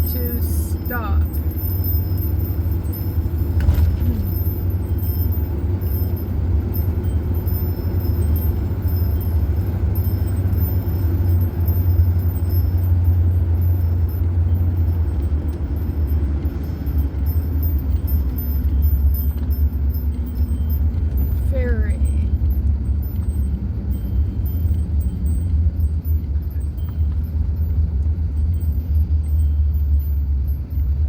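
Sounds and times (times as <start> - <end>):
road noise: 0.0 - 31.0
van engine rumble: 0.0 - 31.0.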